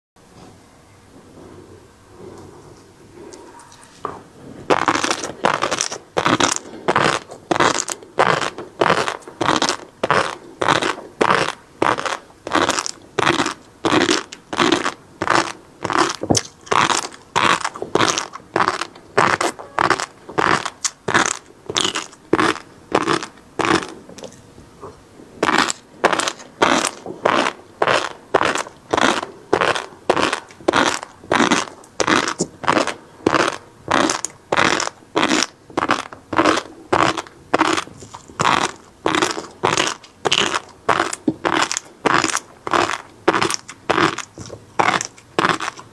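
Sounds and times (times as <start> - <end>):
crunchy chewing: 1.3 - 45.9.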